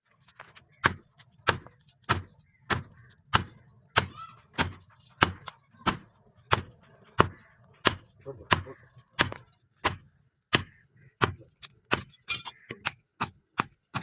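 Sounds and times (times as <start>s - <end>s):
hammer striking steel on anvil: 0.8s - 14.0s.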